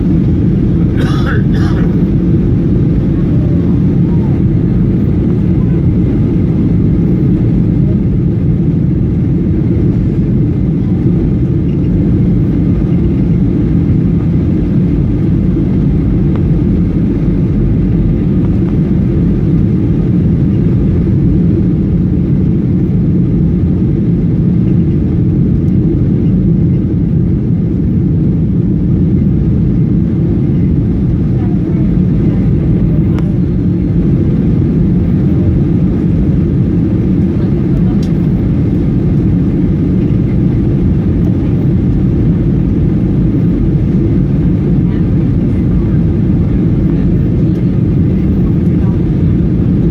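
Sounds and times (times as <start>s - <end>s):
jet engine and airflow rumble: 0.0s - 49.9s.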